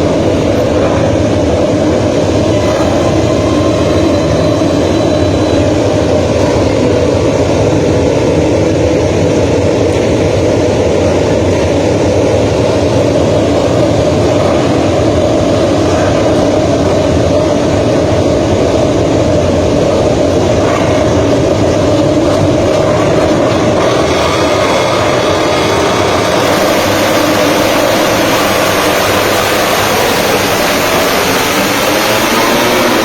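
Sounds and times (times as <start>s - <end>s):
racing motorcycle engines: 0.0s - 33.0s.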